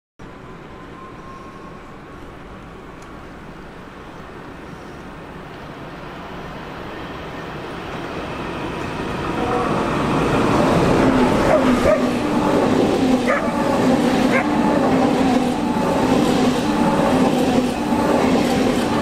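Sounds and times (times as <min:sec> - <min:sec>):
train approaching: 0:00.2 - 0:19.0.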